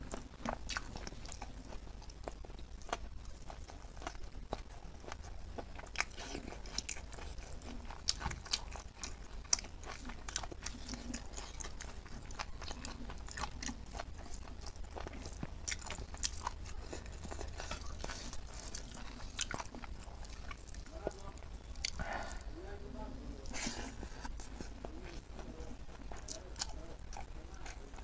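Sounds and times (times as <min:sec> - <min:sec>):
close chewing and biting: 0:00.0 - 0:28.0.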